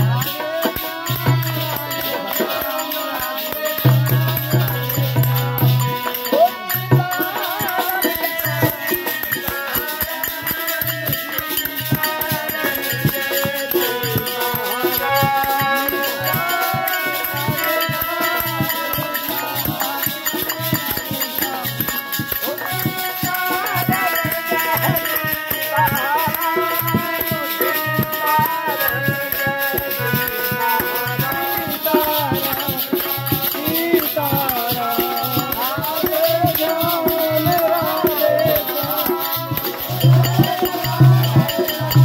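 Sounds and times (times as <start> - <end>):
group singing: 0.0 - 42.0
rattling hand percussion: 0.0 - 42.0.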